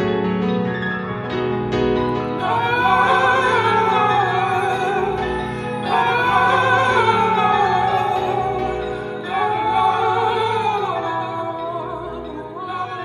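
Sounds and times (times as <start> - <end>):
piano notes: 0.0 - 13.0
wavering sung vocal: 2.3 - 13.0.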